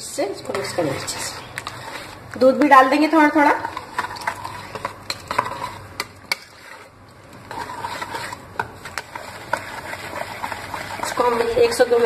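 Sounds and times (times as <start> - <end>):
whisk beating batter in bowl: 0.4 - 12.0.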